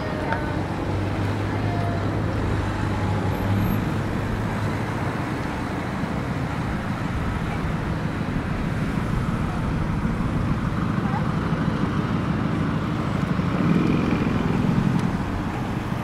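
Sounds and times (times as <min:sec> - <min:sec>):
cars passing: 0:00.0 - 0:16.0
low engine hum: 0:00.0 - 0:16.0.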